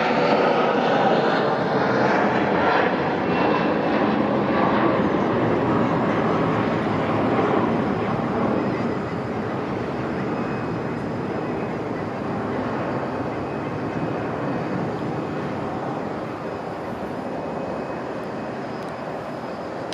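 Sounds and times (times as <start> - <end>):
jet engines roaring: 0.0 - 19.9.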